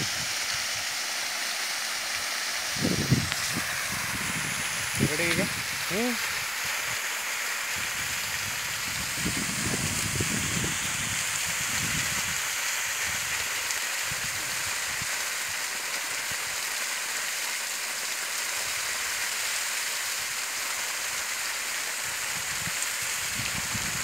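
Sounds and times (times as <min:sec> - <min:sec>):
water jet spattering on grass: 0:00.0 - 0:24.0.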